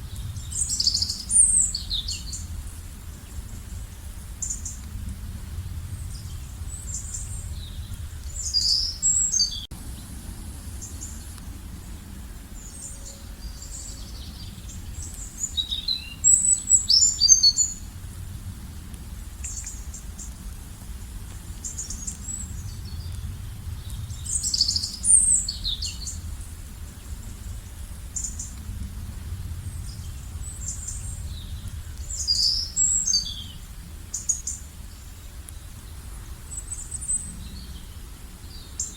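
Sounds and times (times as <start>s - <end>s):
birds singing and chirping: 0.0s - 4.9s, 5.9s - 17.9s, 19.4s - 20.4s, 21.6s - 28.6s, 29.6s - 38.9s
low background rumble: 0.0s - 38.9s.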